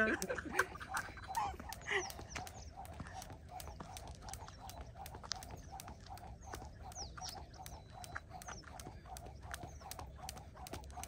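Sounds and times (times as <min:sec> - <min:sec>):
skipping rope tapping ground: 0:00.0 - 0:11.0
small birds chirping: 0:00.0 - 0:11.0.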